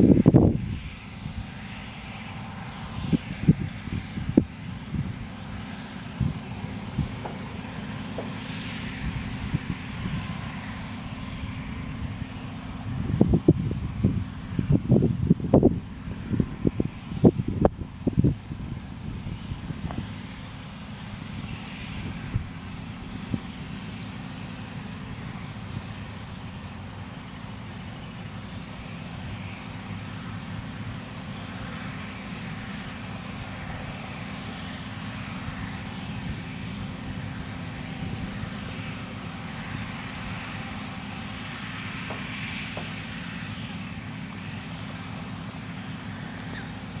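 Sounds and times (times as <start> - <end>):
distant combine harvester rumble: 0.0 - 47.0.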